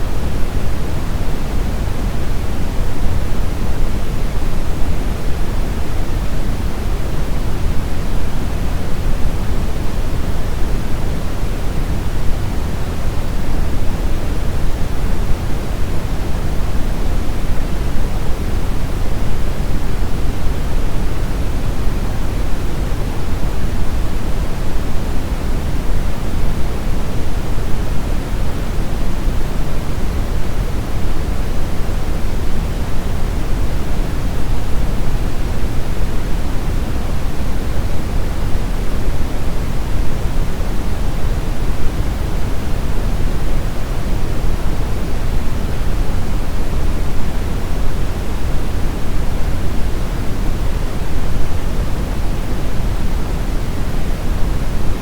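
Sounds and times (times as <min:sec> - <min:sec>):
brown noise rushing hiss: 0:00.0 - 0:55.0.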